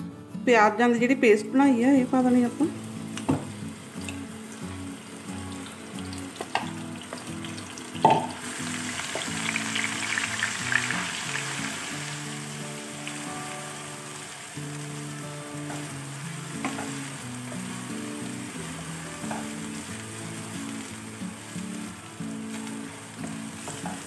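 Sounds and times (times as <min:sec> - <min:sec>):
onion paste sizzling in oil: 0:01.9 - 0:24.0.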